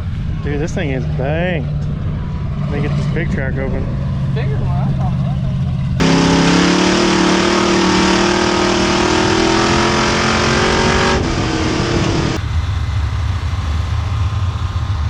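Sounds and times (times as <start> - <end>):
deep engine rumble: 0.0 - 15.0
race car engine accelerating: 0.0 - 15.0.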